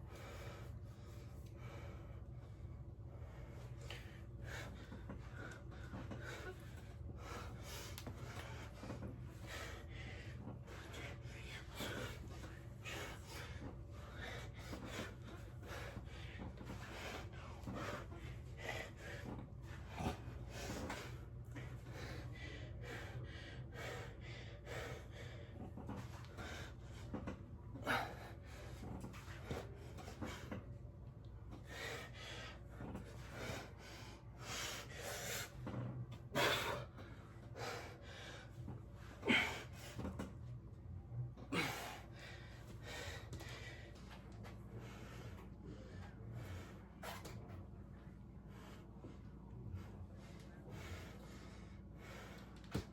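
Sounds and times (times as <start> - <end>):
steady low hum: 0.0 - 52.9
person breathing hard: 3.2 - 30.7, 31.5 - 40.2, 41.5 - 47.5, 48.4 - 52.9.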